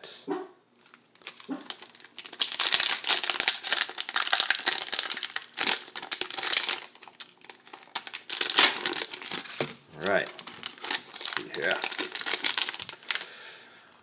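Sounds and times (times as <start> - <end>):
plastic wrapper crinkling: 0.8 - 14.0.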